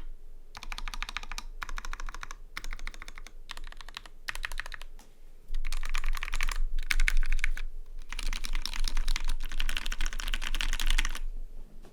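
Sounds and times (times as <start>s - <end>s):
fast typing on mechanical keyboard: 0.6s - 4.9s, 5.6s - 11.2s.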